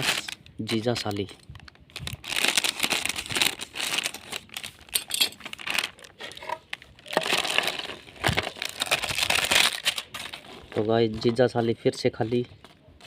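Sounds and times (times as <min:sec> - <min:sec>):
plastic snack packet crinkling: 0:00.0 - 0:11.1.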